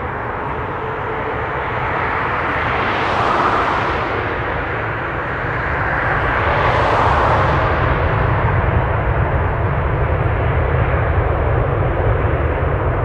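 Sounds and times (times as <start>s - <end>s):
jet engines at takeoff: 0.0s - 13.0s.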